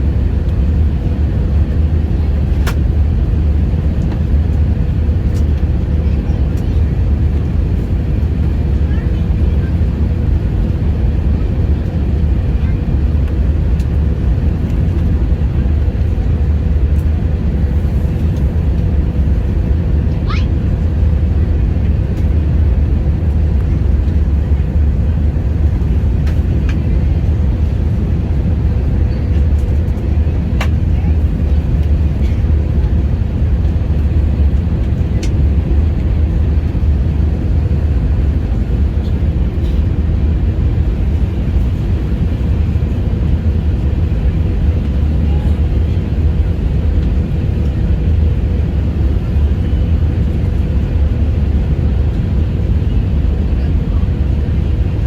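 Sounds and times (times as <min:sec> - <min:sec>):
airliner cabin rumble: 0:00.0 - 0:55.0
steady hum: 0:00.0 - 0:55.0.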